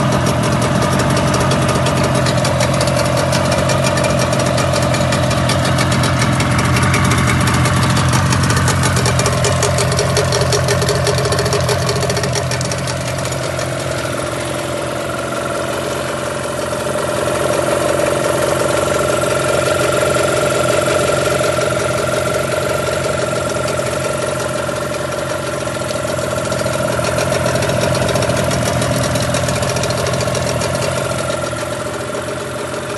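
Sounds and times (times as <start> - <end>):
outboard motor running: 0.0 - 32.9.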